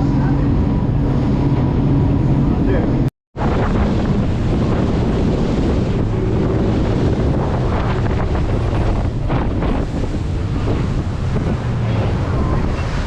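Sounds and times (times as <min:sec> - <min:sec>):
boat engine drone: 0:00.0 - 0:13.0
water rushing past hull: 0:00.0 - 0:13.0
wind buffeting microphone: 0:00.0 - 0:13.0.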